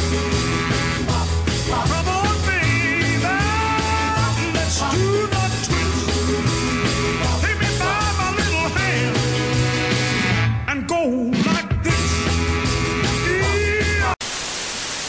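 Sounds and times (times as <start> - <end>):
upbeat rock music: 0.0 - 14.2.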